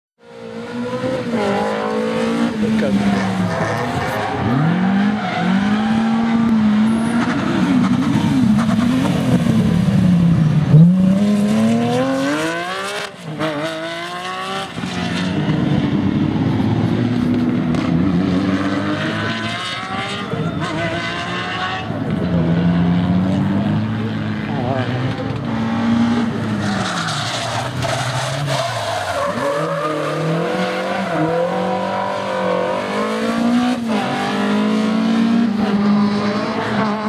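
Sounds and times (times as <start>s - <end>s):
rally car engines revving: 0.2s - 37.0s.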